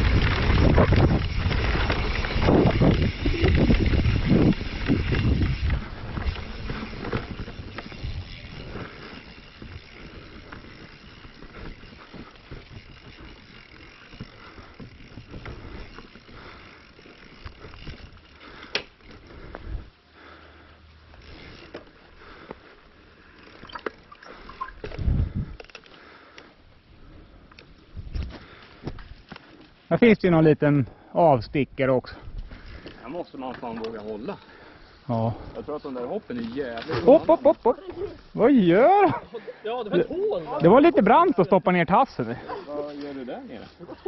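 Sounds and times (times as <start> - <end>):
bike tyres rolling on dirt: 0.0 - 44.0.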